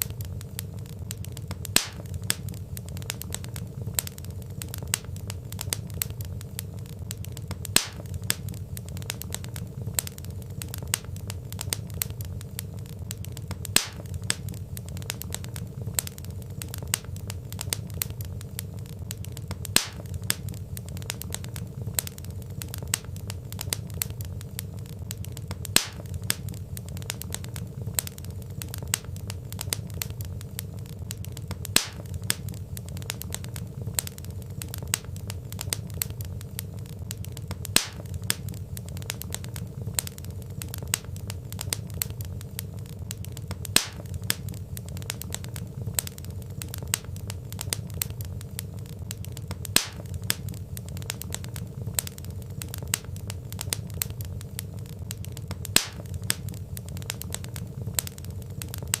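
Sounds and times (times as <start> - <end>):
loud fire pops: 0.0 - 59.0
low steady rumble: 0.0 - 59.0
wood fire crackling: 0.0 - 59.0.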